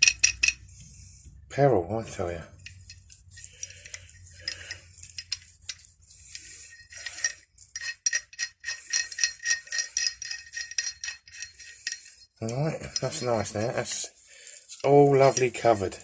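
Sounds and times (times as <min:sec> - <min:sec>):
metal tools clinking: 0:00.0 - 0:00.7, 0:02.6 - 0:14.0, 0:14.6 - 0:16.0
rubbing on metal tools: 0:00.0 - 0:01.4, 0:02.2 - 0:16.0.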